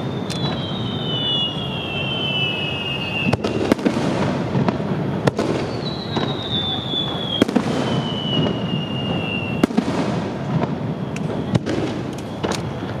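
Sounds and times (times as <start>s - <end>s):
firework bangs: 0.0s - 13.0s
firework whistle: 0.0s - 13.0s
rumble of firework bursts: 0.0s - 13.0s.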